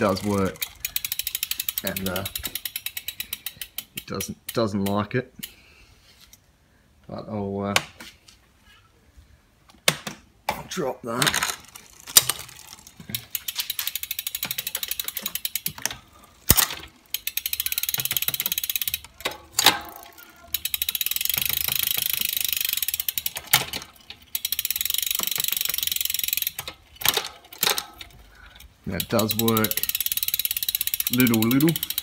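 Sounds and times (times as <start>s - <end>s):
bicycle chain ticking over cassette: 0.0s - 5.6s, 11.4s - 32.0s
derailleur shifting clicks: 0.0s - 5.6s, 11.3s - 32.0s.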